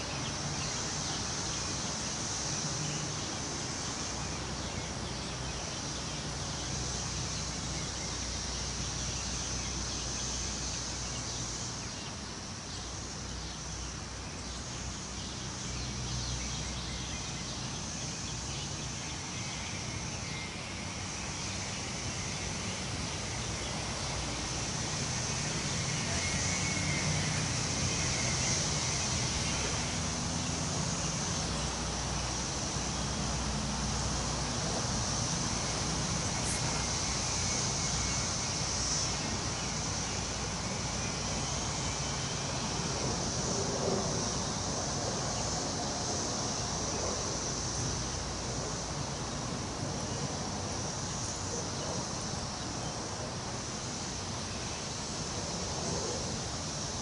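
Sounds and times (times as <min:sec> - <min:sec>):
wind rustling trees: 0:00.0 - 0:57.0.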